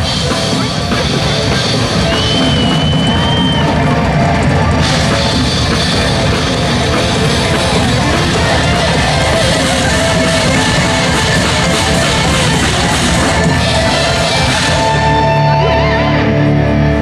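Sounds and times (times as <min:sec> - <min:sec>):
live metal band playing: 0:00.0 - 0:17.0.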